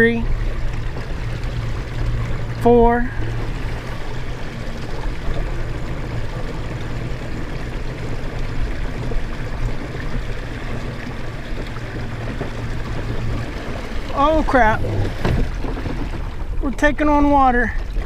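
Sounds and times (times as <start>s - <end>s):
low motor hum: 0.0s - 18.0s
water rushing along hull: 0.0s - 18.0s.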